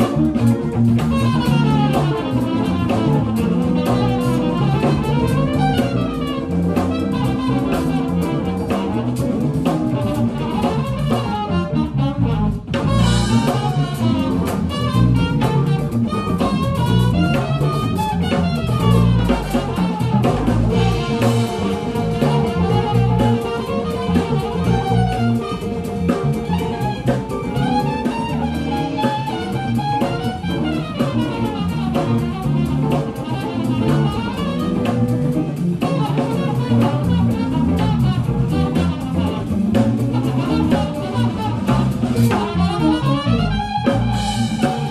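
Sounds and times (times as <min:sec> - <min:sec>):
drum kit beat: 0:00.0 - 0:44.9
guitar chords: 0:00.0 - 0:44.9
wavering lead melody: 0:00.0 - 0:44.9.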